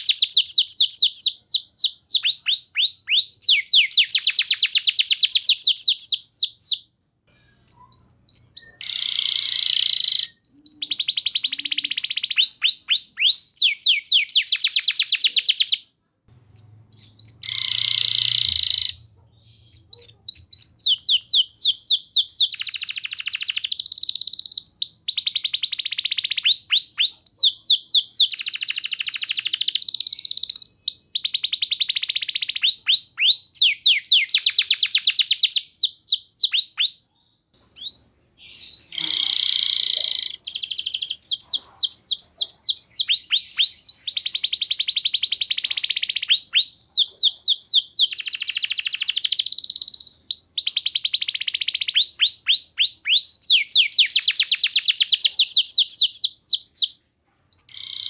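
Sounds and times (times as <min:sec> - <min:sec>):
canary singing trills: 0:00.0 - 0:06.9, 0:07.6 - 0:58.0.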